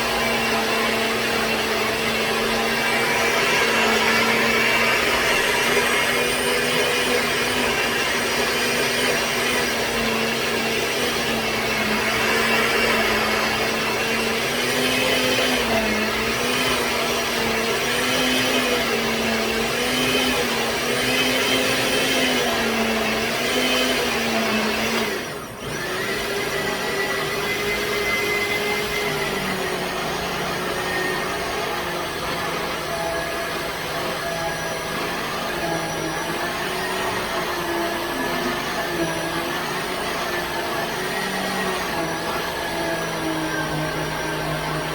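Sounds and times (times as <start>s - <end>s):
electric blender running: 0.0s - 44.9s.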